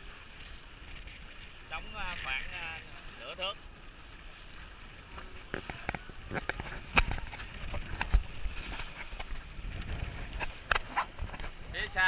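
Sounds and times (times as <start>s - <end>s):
rumbling water wash: 0.0s - 12.0s
waves splashing against boat hulls: 0.0s - 12.0s.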